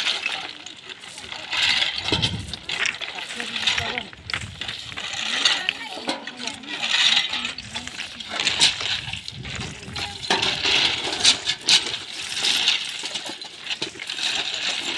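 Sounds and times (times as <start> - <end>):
stones clinking and scraping: 0.0 - 14.9.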